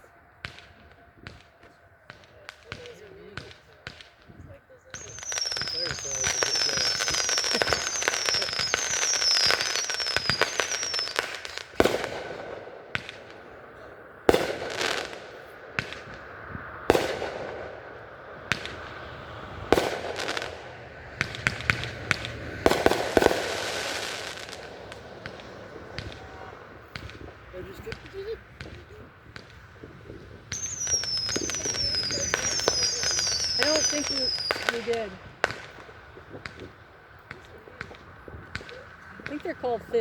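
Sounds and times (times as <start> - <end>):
fireworks crackling: 0.0 - 40.0
fireworks falling whistles: 0.0 - 40.0
firework shell bangs with echo: 4.9 - 39.5.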